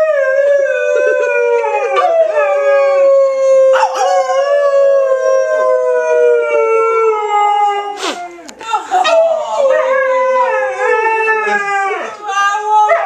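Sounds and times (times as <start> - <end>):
dog howling: 0.0 - 13.0.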